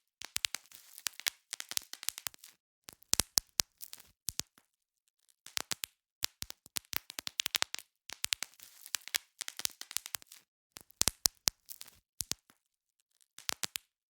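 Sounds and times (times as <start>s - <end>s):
bubble wrap popping: 0.2s - 4.6s, 5.5s - 12.6s, 13.3s - 13.9s.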